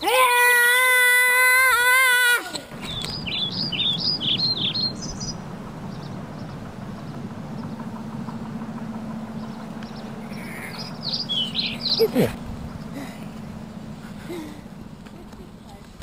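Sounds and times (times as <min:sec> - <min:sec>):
faint hum: 0:00.1 - 0:16.0
steady low drone: 0:02.7 - 0:16.0
small bird chirping: 0:02.8 - 0:15.8.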